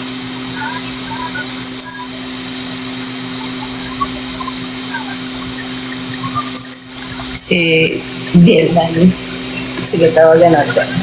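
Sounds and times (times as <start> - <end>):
machine humming and whirring: 0.0 - 11.0.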